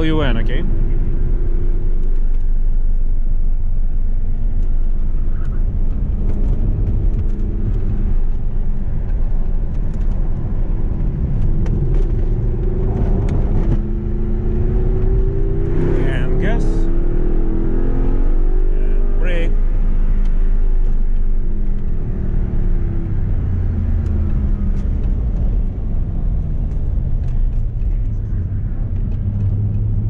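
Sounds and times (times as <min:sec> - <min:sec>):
car engine from inside cabin: 0:00.0 - 0:30.0
low road rumble: 0:00.0 - 0:30.0.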